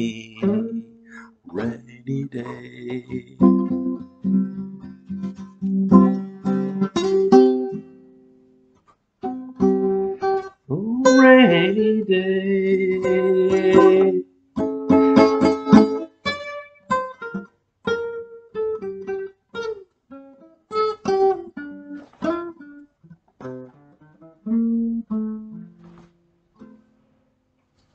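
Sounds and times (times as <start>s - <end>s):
classical guitar playing: 0.0s - 27.1s.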